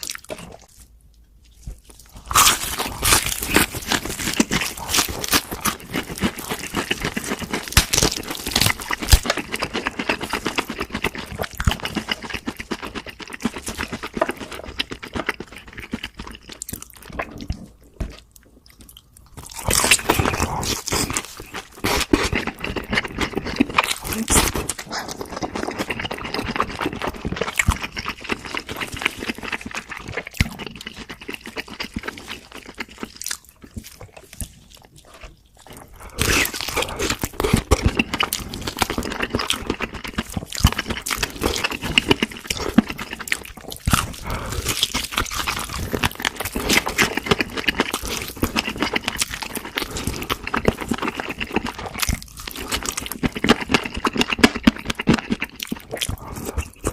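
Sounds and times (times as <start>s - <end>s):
chewing and crunching fried food: 0.0s - 56.9s.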